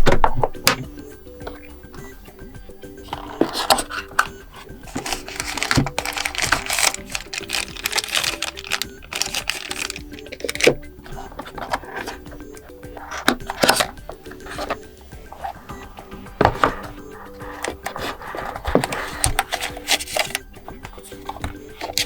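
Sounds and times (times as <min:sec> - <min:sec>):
quiet background music: 0:00.0 - 0:22.0
cardboard and plastic packaging rustling: 0:03.0 - 0:22.0.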